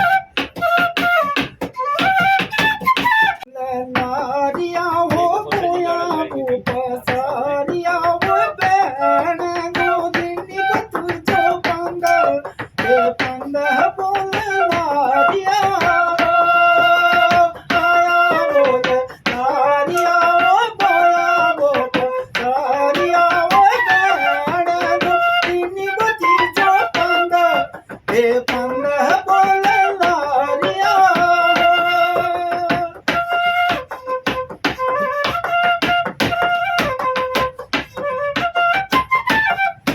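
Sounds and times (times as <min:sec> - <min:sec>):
bamboo flute melody: 0:00.0 - 0:03.5, 0:05.3 - 0:39.9.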